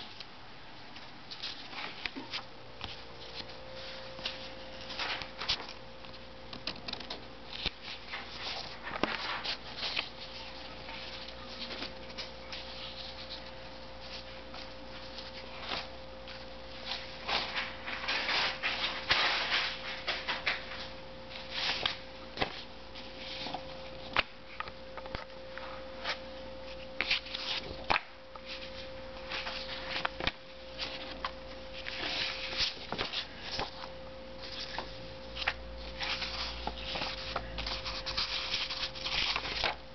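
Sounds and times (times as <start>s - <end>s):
paper pages rustling and turning: 0.0s - 25.3s, 26.0s - 39.8s.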